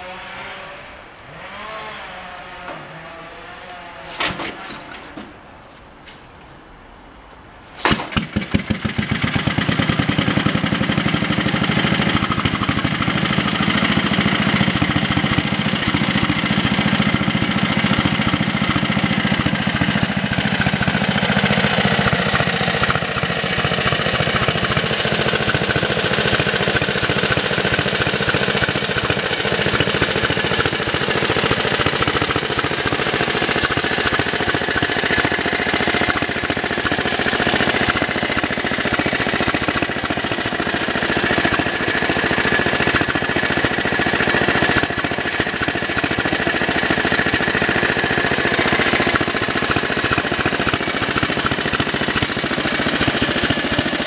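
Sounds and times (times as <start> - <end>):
diesel engine starting and chugging: 7.8 - 54.0.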